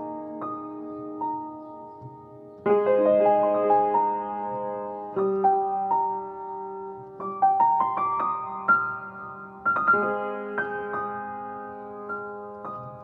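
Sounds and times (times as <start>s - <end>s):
solo piano melody: 0.0s - 13.0s.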